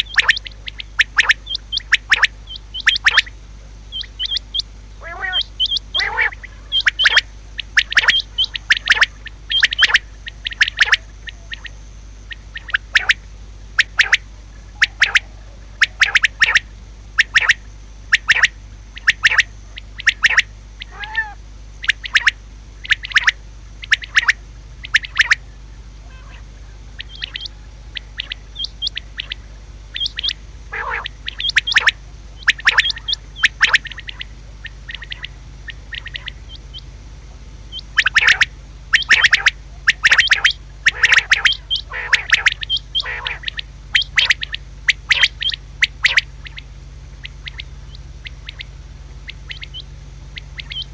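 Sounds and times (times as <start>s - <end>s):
quail chirping: 0.0s - 37.0s, 37.6s - 50.9s.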